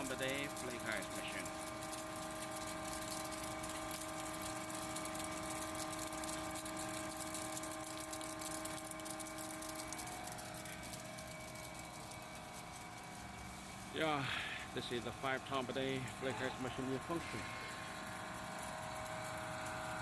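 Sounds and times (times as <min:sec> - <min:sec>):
ice machine humming: 0:00.0 - 0:20.0.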